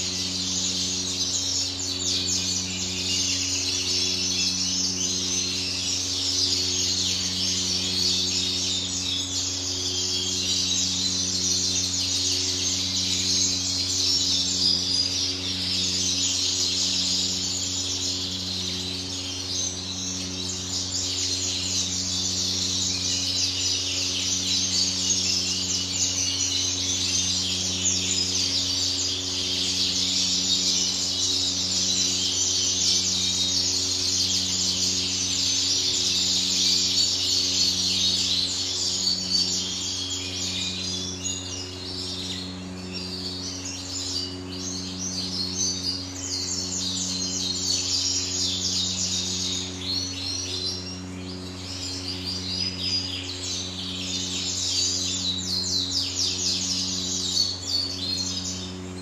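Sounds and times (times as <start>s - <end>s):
canaries chirping and singing: 0.0s - 59.0s
low electrical hum: 0.0s - 59.0s.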